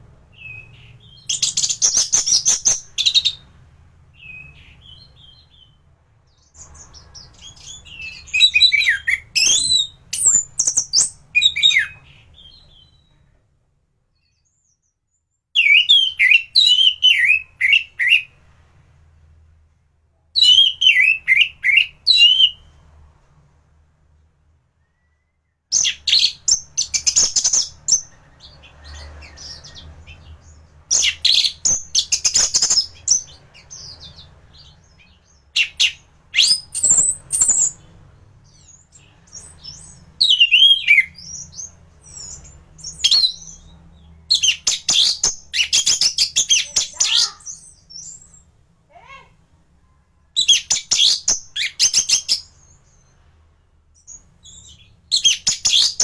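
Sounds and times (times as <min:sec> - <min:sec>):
bird singing: 0:00.0 - 0:13.4, 0:14.1 - 0:18.4, 0:20.4 - 0:22.8, 0:24.7 - 0:49.2, 0:49.8 - 0:56.0.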